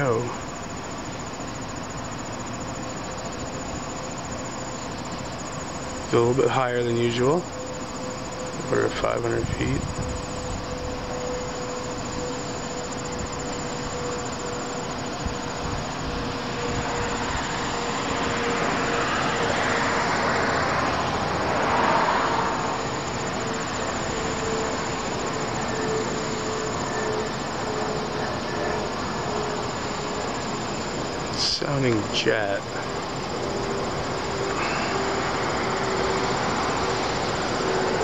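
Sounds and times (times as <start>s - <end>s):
crickets chirping: 0.0s - 38.0s
low-flying aircraft passing: 0.0s - 38.0s.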